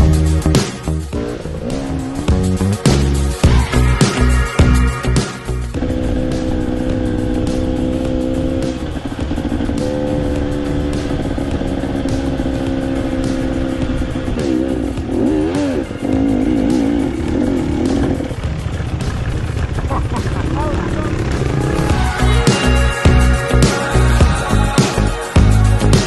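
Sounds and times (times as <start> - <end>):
dirt bike engine revving: 0.0 - 24.5
background music: 0.0 - 26.0.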